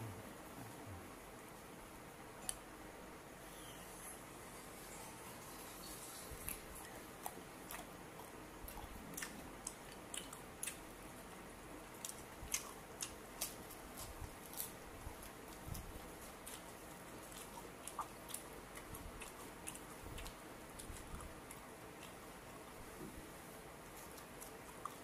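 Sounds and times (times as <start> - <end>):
chewing grilled pork: 4.9 - 25.0.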